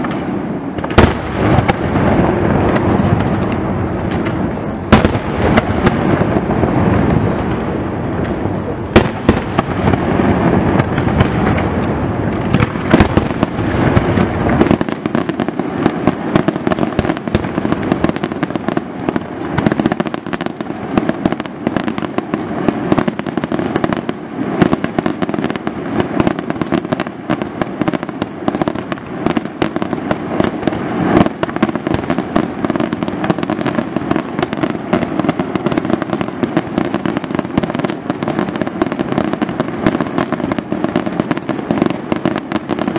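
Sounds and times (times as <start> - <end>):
fireworks crackles and bangs: 0.0 - 42.9
fireworks low booms: 0.0 - 42.9.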